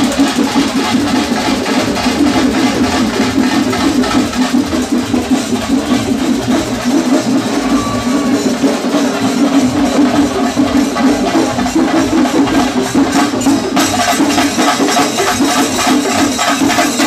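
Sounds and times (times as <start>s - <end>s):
fast continuous drumming: 0.0s - 17.0s.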